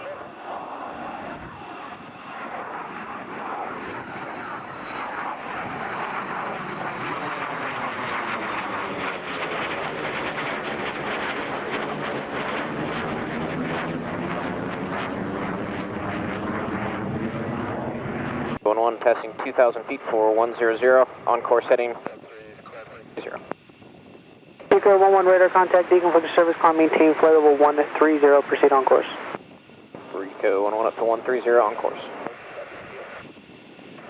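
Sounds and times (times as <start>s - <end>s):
fighter jet engine roar: 0.0s - 34.0s.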